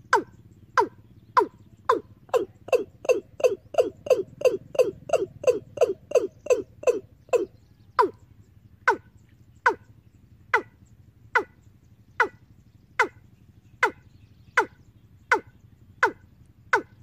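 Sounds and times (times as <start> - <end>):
bird lure call through loudspeakers: 0.0 - 17.0.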